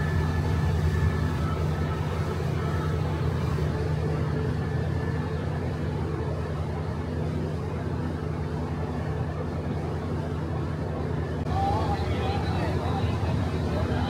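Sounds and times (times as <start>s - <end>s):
idling train drone: 0.0s - 14.0s.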